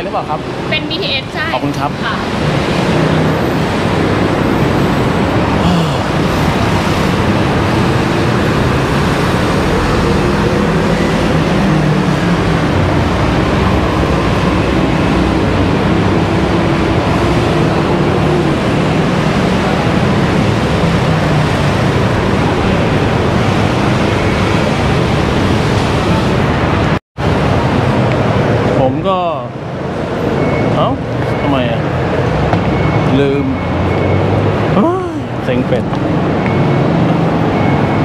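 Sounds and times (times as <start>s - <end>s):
city road traffic: 0.0s - 38.0s.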